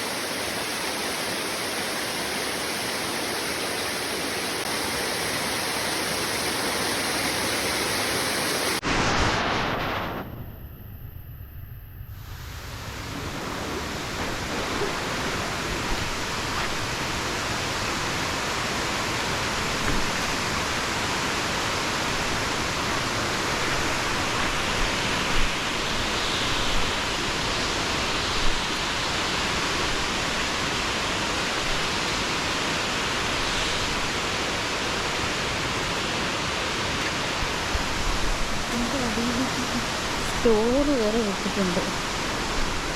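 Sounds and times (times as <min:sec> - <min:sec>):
waterfall rushing: 0:00.0 - 0:08.8, 0:12.8 - 0:42.9.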